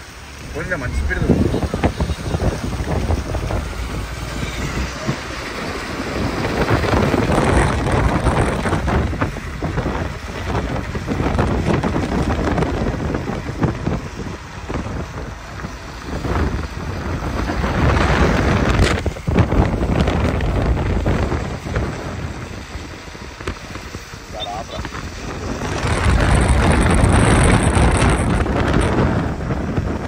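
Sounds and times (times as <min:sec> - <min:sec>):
motorcycles passing: 0:00.0 - 0:30.0
road noise on wet highway: 0:00.0 - 0:30.0
wind buffeting microphone: 0:00.0 - 0:30.0.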